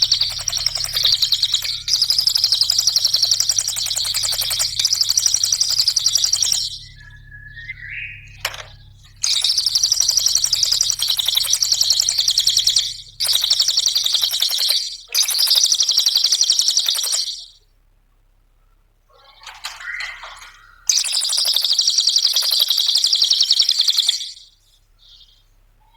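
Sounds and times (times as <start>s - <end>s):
songbird rattling trills: 0.0s - 17.6s, 19.2s - 25.2s.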